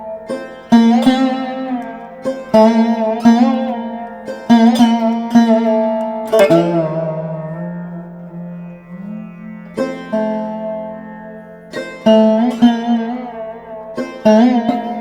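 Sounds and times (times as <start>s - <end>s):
plucked string instrument notes: 0.0s - 15.0s.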